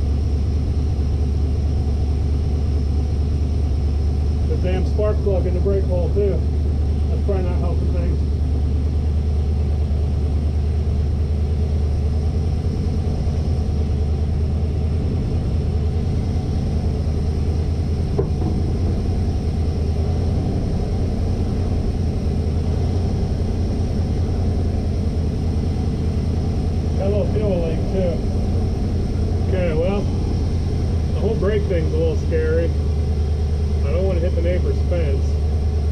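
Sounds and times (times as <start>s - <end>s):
motorhome engine rumbling: 0.0s - 35.9s.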